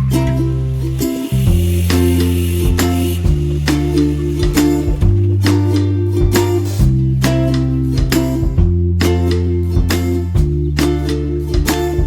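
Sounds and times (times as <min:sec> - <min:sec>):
strummed string tune with bass: 0:00.0 - 0:12.0.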